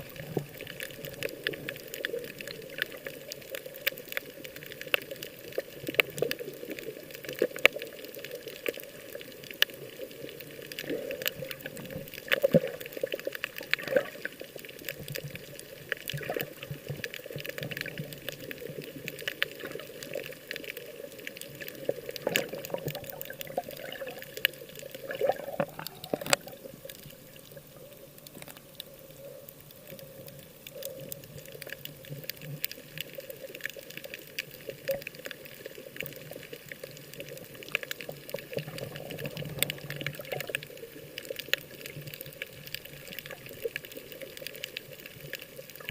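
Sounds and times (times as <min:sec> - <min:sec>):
sea water sloshing and splashing: 0:00.0 - 0:45.9
small crackles and clicks: 0:00.0 - 0:45.9.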